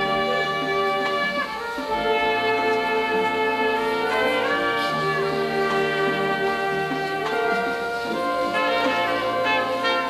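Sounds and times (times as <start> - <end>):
brass band playing sustained chords: 0.0 - 10.0.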